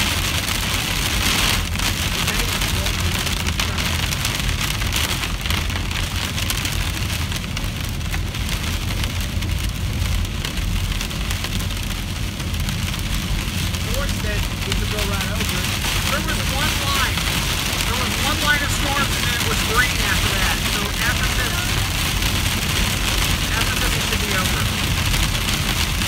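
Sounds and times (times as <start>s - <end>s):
car rumbling on road: 0.0s - 26.0s
rain on car roof: 0.0s - 26.0s.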